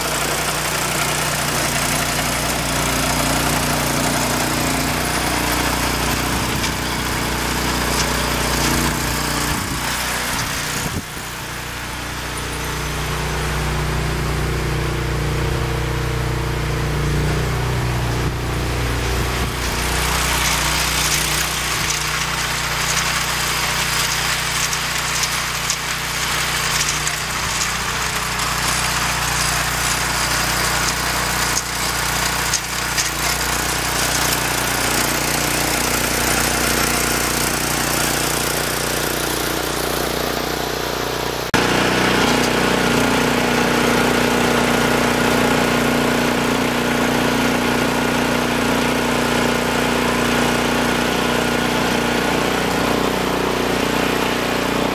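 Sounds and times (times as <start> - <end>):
garden tractor engine running: 0.0 - 54.9
snowblower throwing snow: 0.0 - 54.9.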